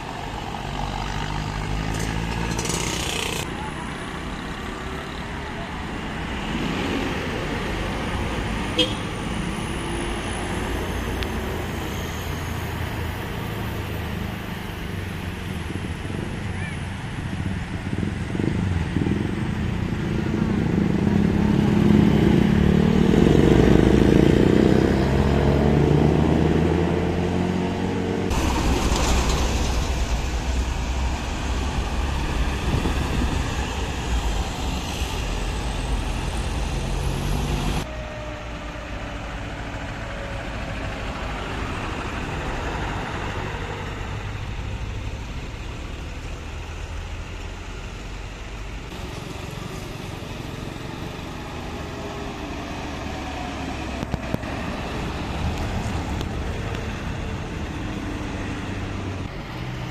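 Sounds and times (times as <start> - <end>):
loud low engine rumble: 0.0 - 59.9
vehicles passing: 0.0 - 59.9.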